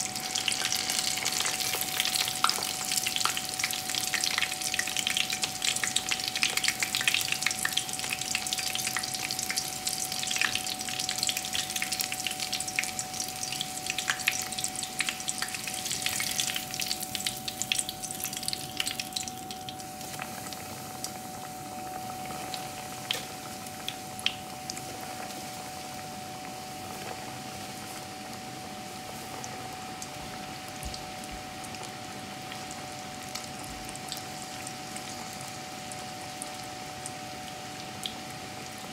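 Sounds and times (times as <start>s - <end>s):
deep-frying sizzle: 0.0s - 38.9s
oil bubbling: 0.0s - 38.9s.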